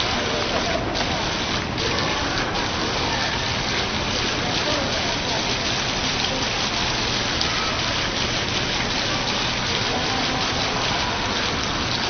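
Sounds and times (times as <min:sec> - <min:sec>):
falling water streams rushing: 0:00.0 - 0:12.0.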